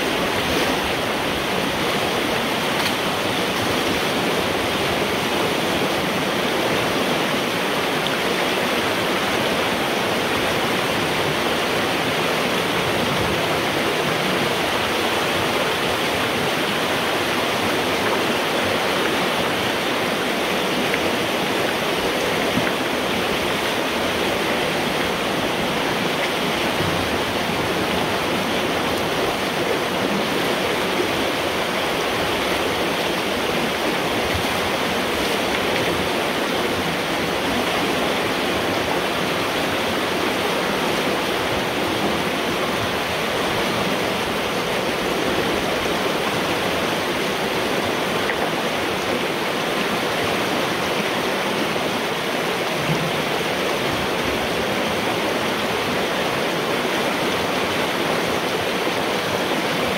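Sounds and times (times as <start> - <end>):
water rushing through pipe: 0.0 - 59.9.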